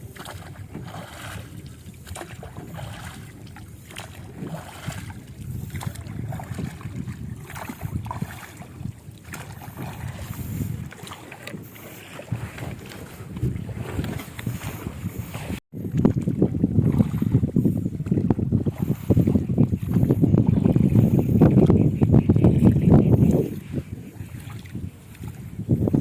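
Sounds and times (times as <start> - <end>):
water lapping on boat: 0.0 - 26.0
wind buffeting microphone: 0.0 - 26.0.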